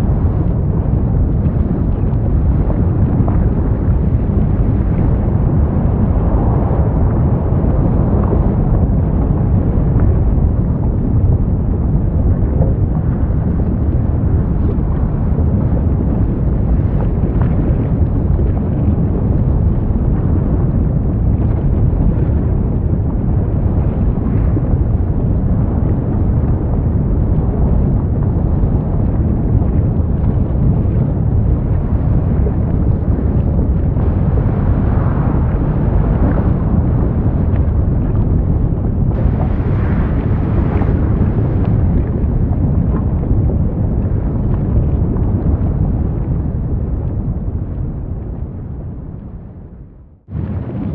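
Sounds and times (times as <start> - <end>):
deep rumble of lava venting: 0.0 - 50.9.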